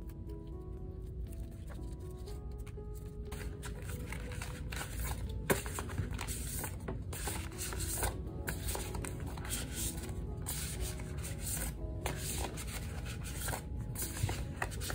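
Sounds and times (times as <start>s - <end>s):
card sheets and sleeves rustling: 0.0s - 14.9s.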